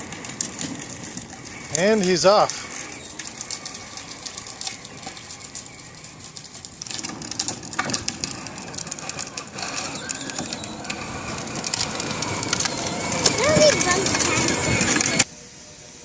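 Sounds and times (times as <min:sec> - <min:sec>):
small electric motor running: 0:00.0 - 0:06.6, 0:08.3 - 0:15.3
plastic wheels clicking and rattling: 0:00.0 - 0:15.3.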